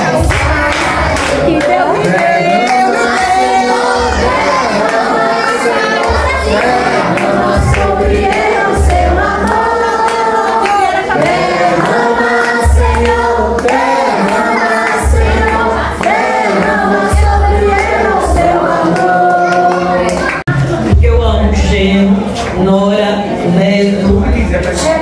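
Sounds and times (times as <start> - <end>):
music: 0.0 - 22.8
group of people singing: 0.0 - 25.0.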